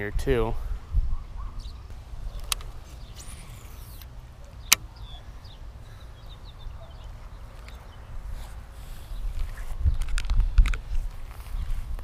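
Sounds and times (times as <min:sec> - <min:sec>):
wind rumbling on microphone: 0:00.0 - 0:04.0, 0:06.2 - 0:12.0.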